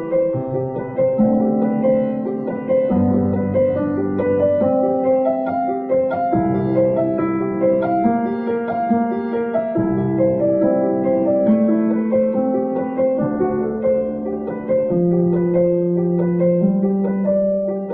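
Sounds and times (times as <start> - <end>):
piano music: 0.0 - 17.9.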